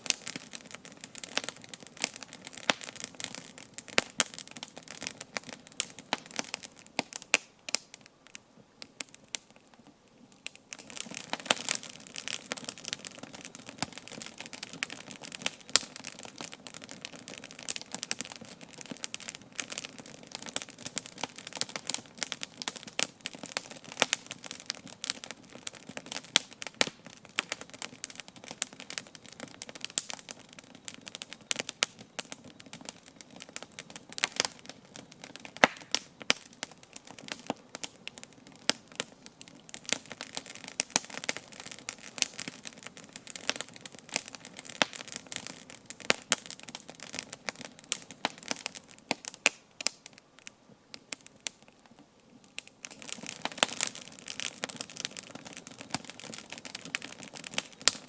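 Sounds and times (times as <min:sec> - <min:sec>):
campfire crackling and popping: 0:00.0 - 0:58.0
hiss of burning wood: 0:00.0 - 0:58.0.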